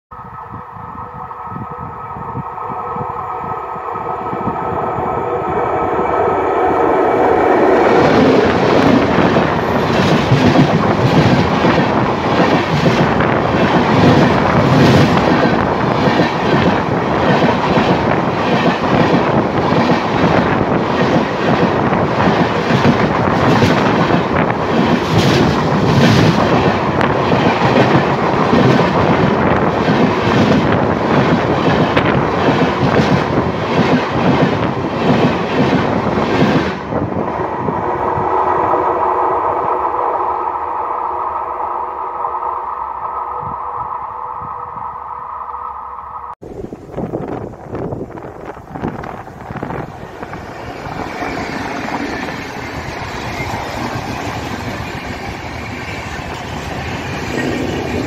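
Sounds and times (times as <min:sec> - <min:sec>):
train multi-tone hum: 0:00.1 - 0:58.0
train wheels rumbling over rails: 0:04.0 - 0:41.6, 0:46.4 - 0:58.0.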